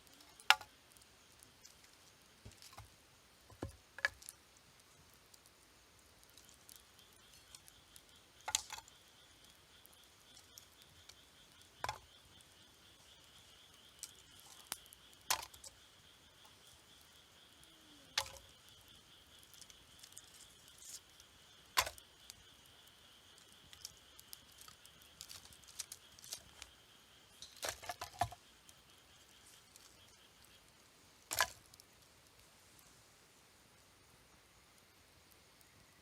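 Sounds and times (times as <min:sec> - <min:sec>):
fire pops and snaps: 0:00.0 - 0:33.0
campfire crackling: 0:00.0 - 0:36.0.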